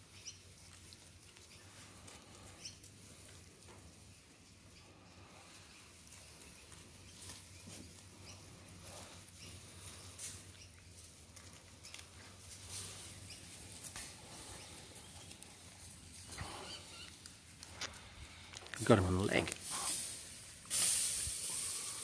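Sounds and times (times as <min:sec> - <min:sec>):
puppies scuffling on grass: 0:00.0 - 0:22.0.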